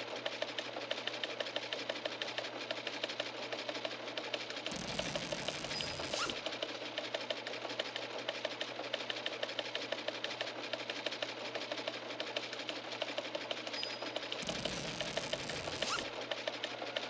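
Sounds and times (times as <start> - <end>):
fast mechanical clatter: 0.2 - 17.0.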